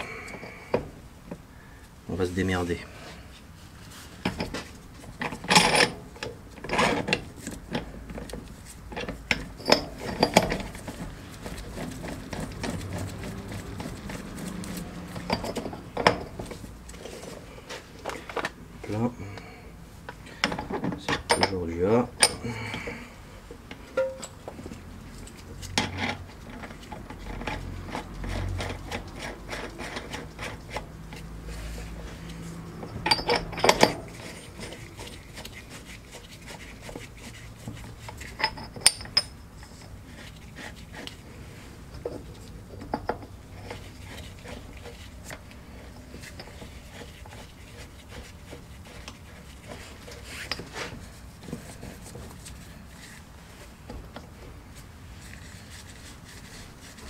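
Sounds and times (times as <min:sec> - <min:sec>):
steel parts clinking and scraping: 0:04.2 - 0:18.6, 0:19.3 - 0:54.5.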